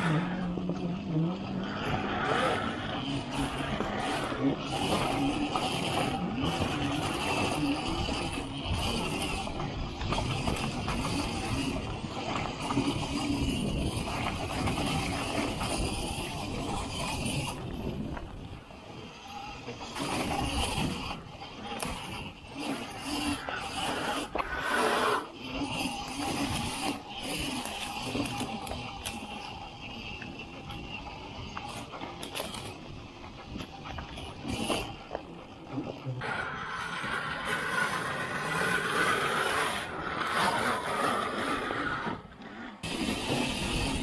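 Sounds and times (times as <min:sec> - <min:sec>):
electric motor whine: 0:00.0 - 0:44.0
steady rushing noise: 0:00.0 - 0:44.0.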